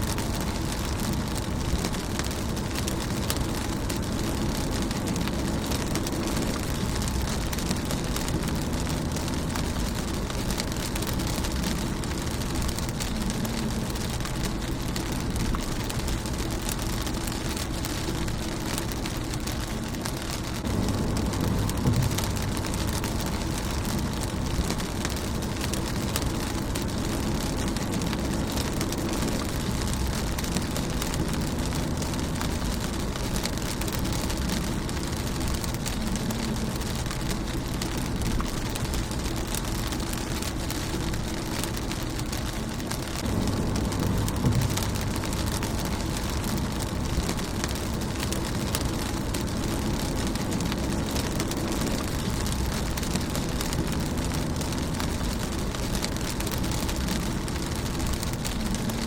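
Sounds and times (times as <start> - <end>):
low rumble: 0.0 - 59.0
rain on a car windshield: 0.0 - 59.0.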